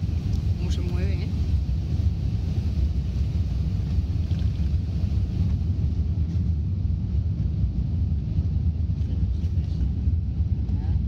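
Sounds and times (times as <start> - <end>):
jet engines rumbling: 0.0 - 11.0
wheels rumbling on runway: 0.0 - 11.0.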